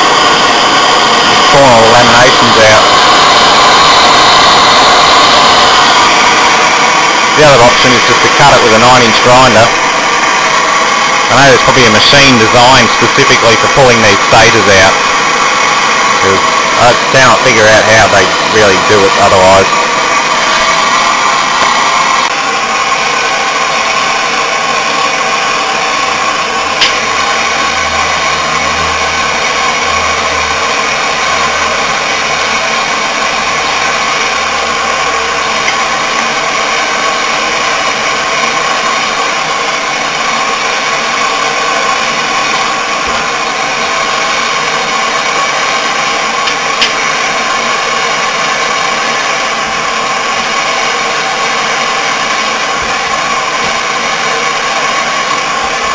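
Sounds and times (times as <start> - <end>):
torch hissing: 0.0 - 55.9.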